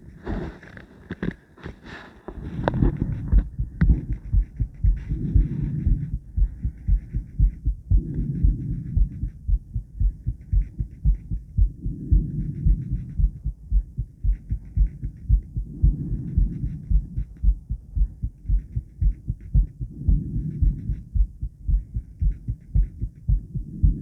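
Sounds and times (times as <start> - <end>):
heartbeat thumps: 0.0 - 24.0.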